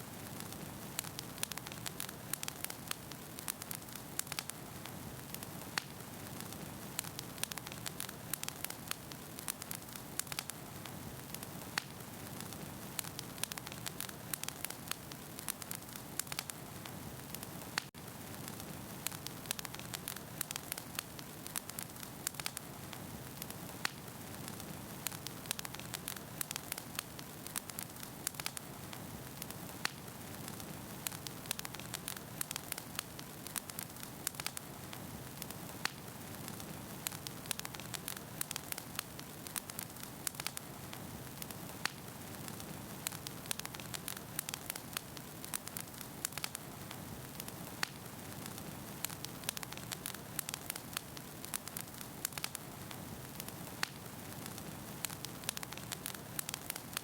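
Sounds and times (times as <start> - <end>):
burning logs popping: 0.1 - 57.0
fire hissing: 0.1 - 57.0.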